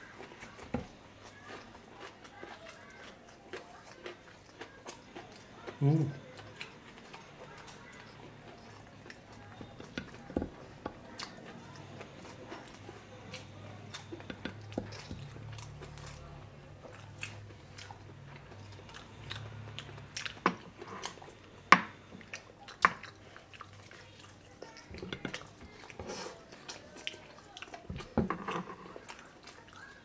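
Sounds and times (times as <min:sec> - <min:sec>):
man chewing meat: 0:00.0 - 0:30.0.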